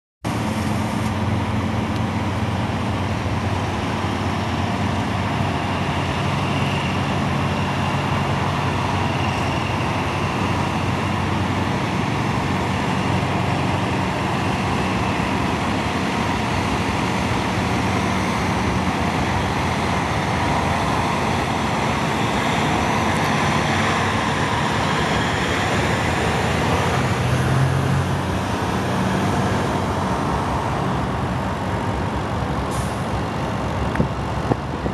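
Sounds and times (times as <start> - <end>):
truck diesel engine running: 0.3 - 34.9.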